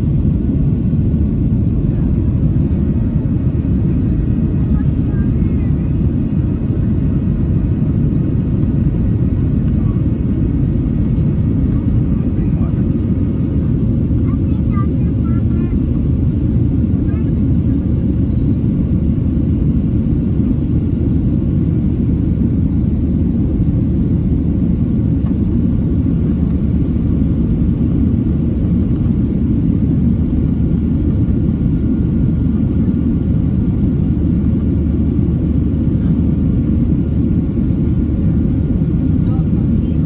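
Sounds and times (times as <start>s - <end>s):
airliner engines rumbling: 0.0s - 40.0s.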